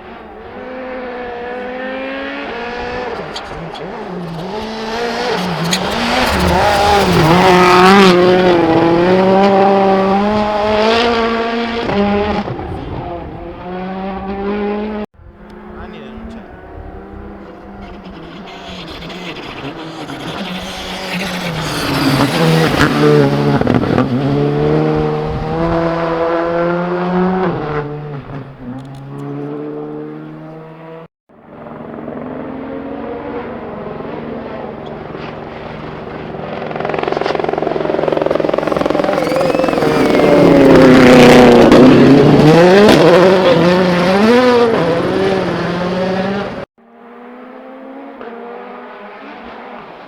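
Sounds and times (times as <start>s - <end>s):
rally car engine passing: 0.0s - 50.0s.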